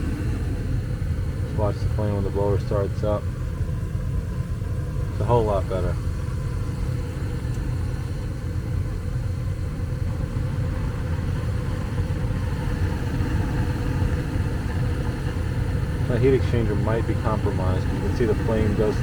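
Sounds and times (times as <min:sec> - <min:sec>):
gas furnace flame and fan rumble: 0:00.0 - 0:19.0.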